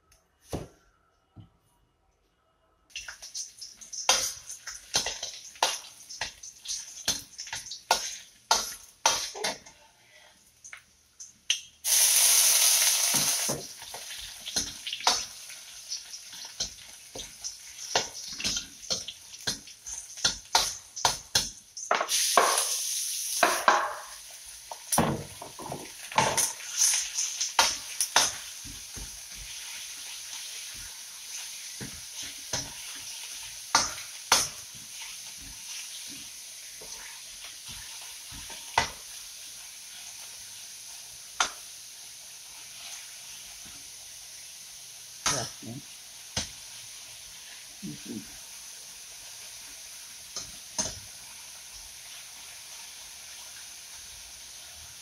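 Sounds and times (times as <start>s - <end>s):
food sizzling in hot oil: 2.9s - 9.7s, 10.4s - 55.0s.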